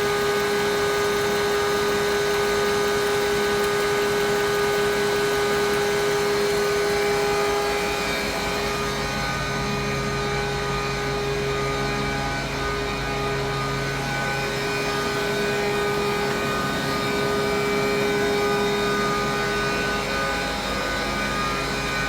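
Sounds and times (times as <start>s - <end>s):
milling machine motor hum and whine: 0.0s - 22.0s.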